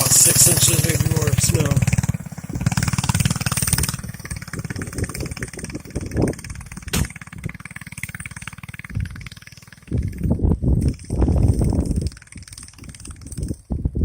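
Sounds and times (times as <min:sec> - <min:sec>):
mini bike engine running: 0:00.0 - 0:14.0.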